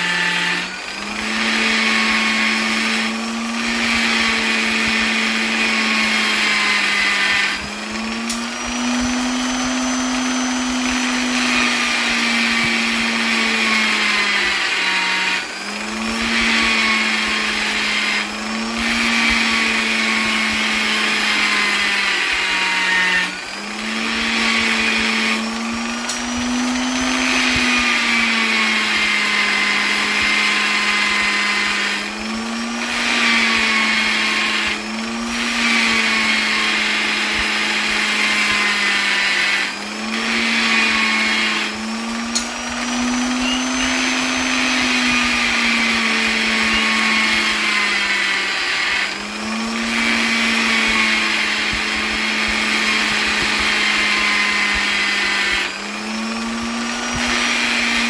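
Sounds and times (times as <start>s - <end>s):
electric polisher motor humming: 0.0s - 58.0s.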